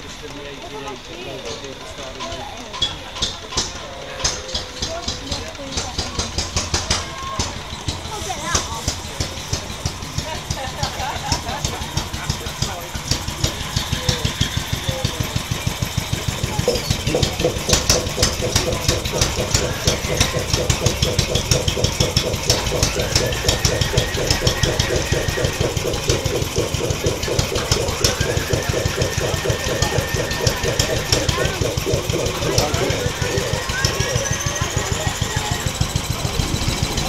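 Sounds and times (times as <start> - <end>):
steam engine exhaust puffs: 0.0 - 37.0.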